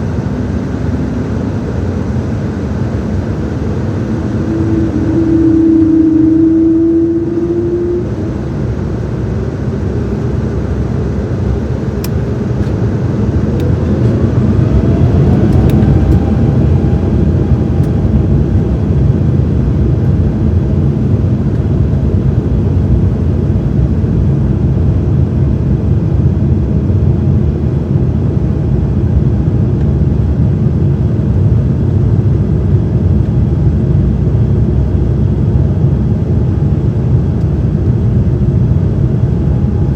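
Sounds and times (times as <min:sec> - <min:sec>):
heavy cabin rumble: 0:00.0 - 0:39.9
jet engine whine: 0:00.0 - 0:39.9.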